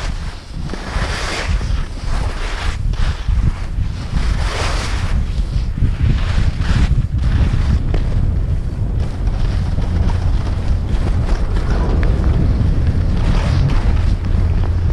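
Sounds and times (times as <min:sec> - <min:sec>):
ski edges carving snow: 0:00.0 - 0:14.9
wind buffeting on microphone: 0:00.0 - 0:14.9.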